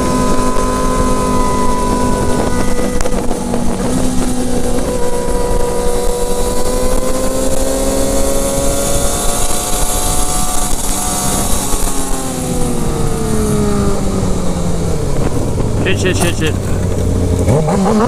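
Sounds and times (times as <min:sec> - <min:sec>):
wind rushing: 0:00.0 - 0:17.4
motorcycle engine: 0:00.0 - 0:18.0.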